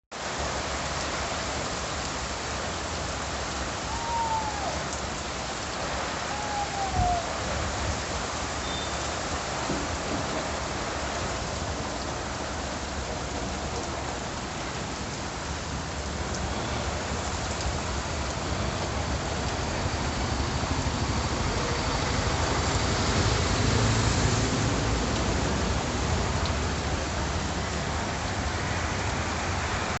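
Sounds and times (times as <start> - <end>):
heavy rain falling: 0.1 - 30.0.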